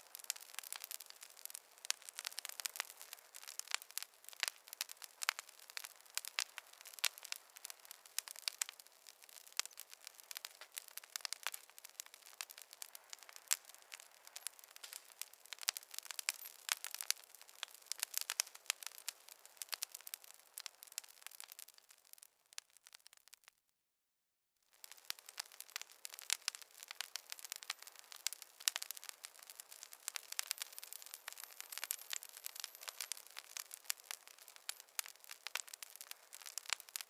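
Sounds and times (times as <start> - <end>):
wood fire crackling: 0.0 - 23.5, 24.7 - 37.0.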